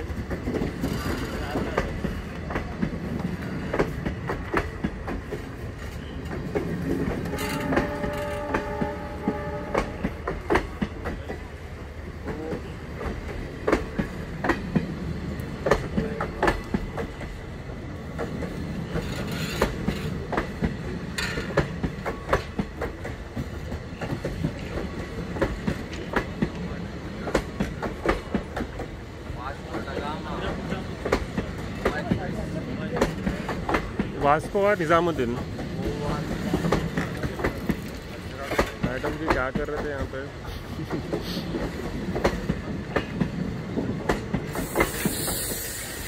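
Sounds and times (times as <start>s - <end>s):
train wheels clickety-clack: 0.0s - 46.0s.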